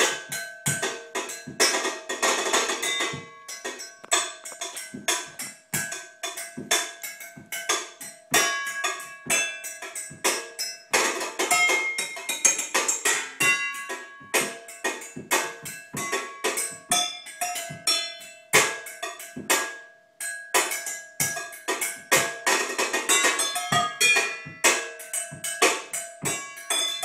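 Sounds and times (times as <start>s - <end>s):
knives drumming on pots and pans: 0.0s - 27.0s.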